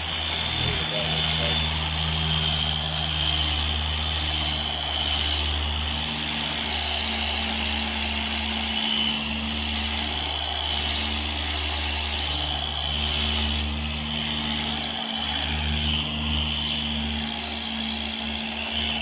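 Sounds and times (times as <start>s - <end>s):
power sander on steel: 0.0s - 19.0s.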